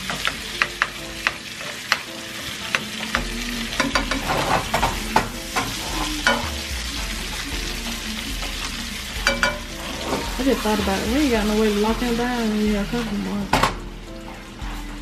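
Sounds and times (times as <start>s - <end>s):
steaks sizzling in frying pan: 0.0s - 15.0s.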